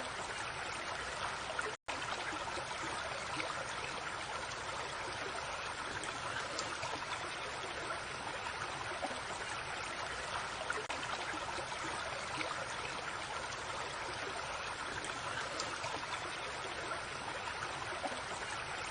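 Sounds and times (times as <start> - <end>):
creek water babbling: 0.0 - 18.9.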